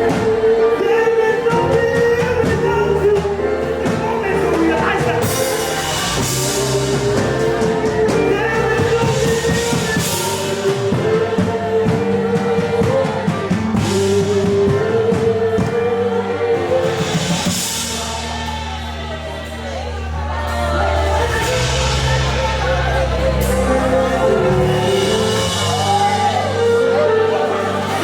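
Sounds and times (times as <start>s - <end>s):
band with drum kit: 0.0s - 28.0s.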